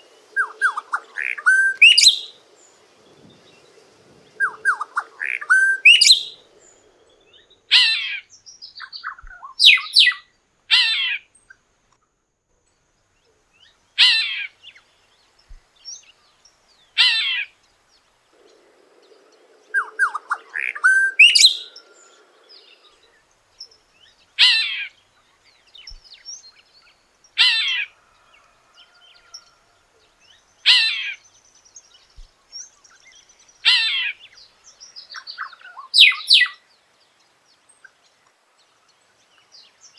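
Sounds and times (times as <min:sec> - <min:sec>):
bird singing sweeping phrases: 0:00.0 - 0:11.6, 0:13.4 - 0:38.0.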